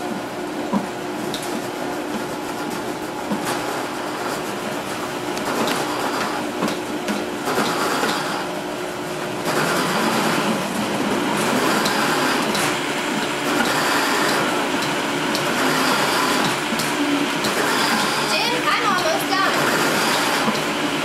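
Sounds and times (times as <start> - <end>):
blenders chopping vegetables: 0.0 - 21.0.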